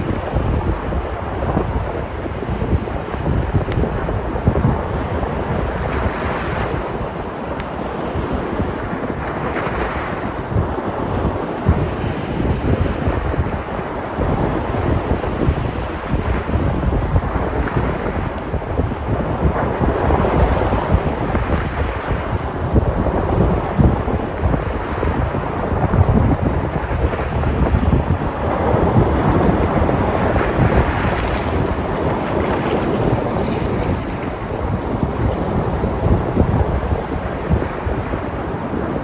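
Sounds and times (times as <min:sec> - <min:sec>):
waves breaking: 0:00.0 - 0:39.0
wind rumble on microphone: 0:00.0 - 0:39.0.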